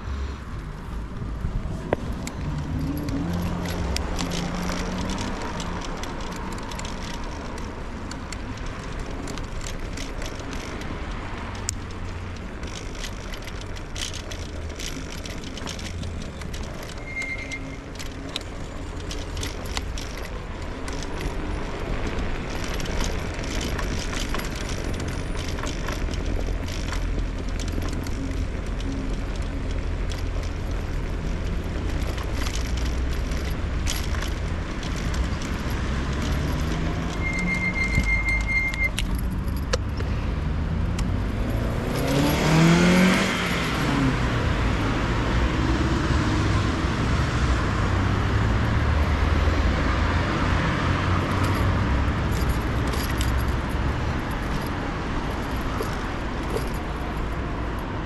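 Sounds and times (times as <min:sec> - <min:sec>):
scooter wheels rumbling on pavement: 0:00.0 - 0:58.0
small rattles and clicks: 0:01.6 - 0:40.2, 0:40.8 - 0:58.0.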